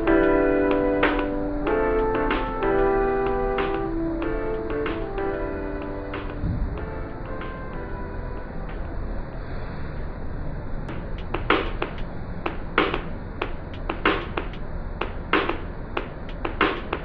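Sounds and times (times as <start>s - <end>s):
backing music track: 0.0s - 9.5s, 10.9s - 17.0s.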